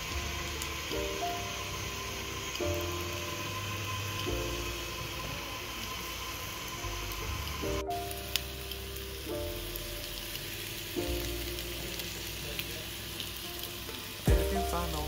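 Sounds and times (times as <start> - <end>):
background music with held chords: 0.0 - 15.0
chicken sizzling in a pan: 0.0 - 15.0.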